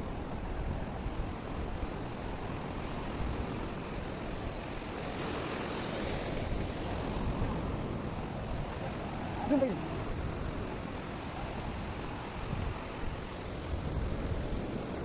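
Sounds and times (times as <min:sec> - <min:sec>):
sea surf: 0:00.0 - 0:15.0
wind on microphone: 0:00.0 - 0:15.0.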